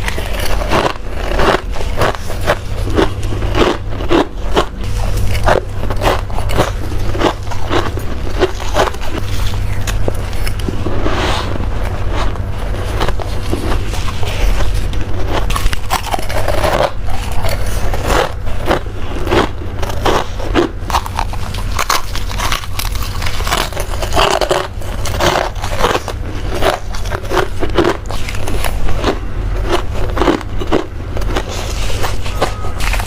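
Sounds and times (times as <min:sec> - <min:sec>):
frost being chewed crunching: 0:00.0 - 0:33.0
steady low hum: 0:00.0 - 0:33.0.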